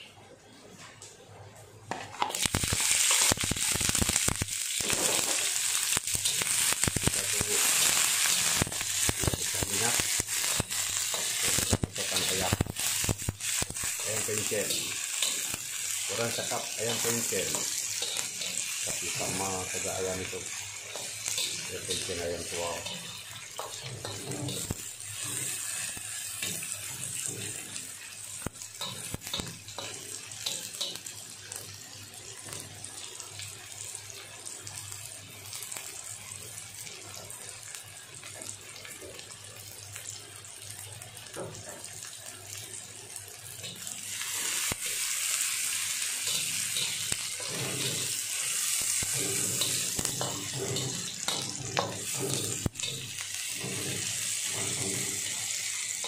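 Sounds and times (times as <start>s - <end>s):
food sizzling in hot oil: 1.9s - 56.0s.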